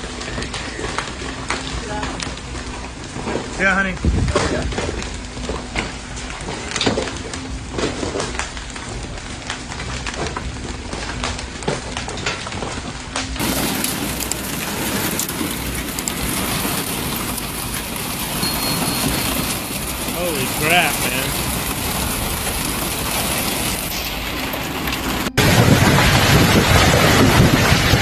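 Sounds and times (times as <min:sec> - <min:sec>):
hail and rain pelting: 0:00.0 - 0:28.0.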